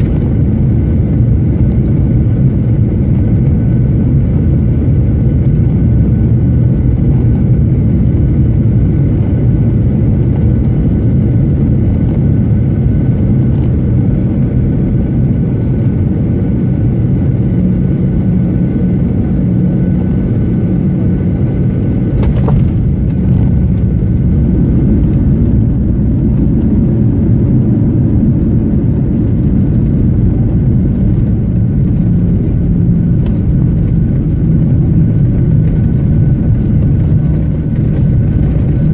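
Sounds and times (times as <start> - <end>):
jet engines and airflow rumble: 0.0 - 38.9.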